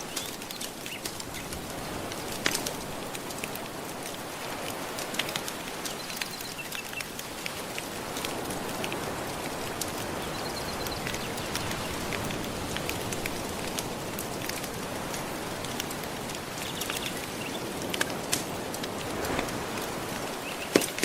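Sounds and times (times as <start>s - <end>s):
ocean waves: 0.0s - 21.0s
wood fire crackling: 0.0s - 21.0s.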